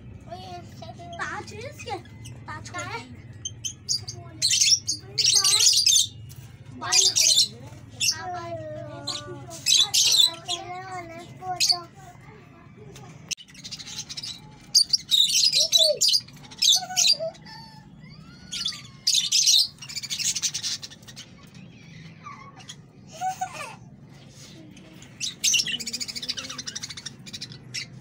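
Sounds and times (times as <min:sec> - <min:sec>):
lovebirds chirping and squawking: 0:00.0 - 0:28.0.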